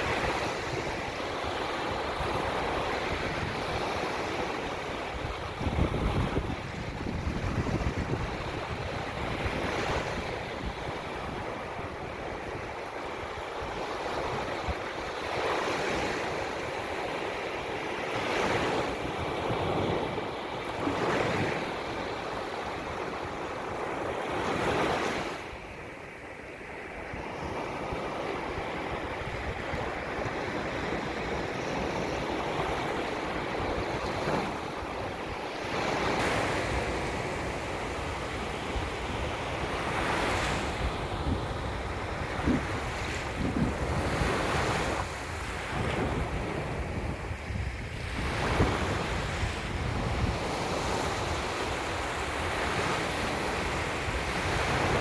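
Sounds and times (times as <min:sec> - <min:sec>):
wind on microphone: 0:00.0 - 0:16.9, 0:27.1 - 0:55.0.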